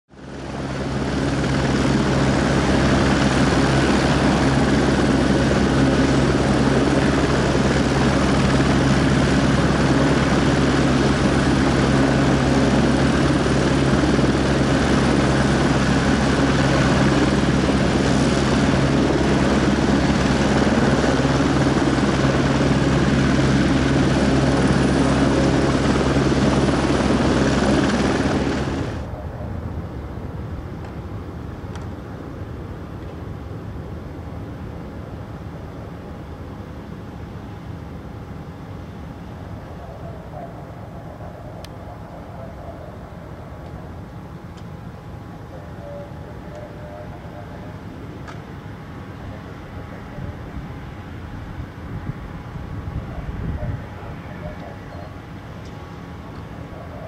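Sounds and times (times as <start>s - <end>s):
jet engines running: 0.1s - 57.0s.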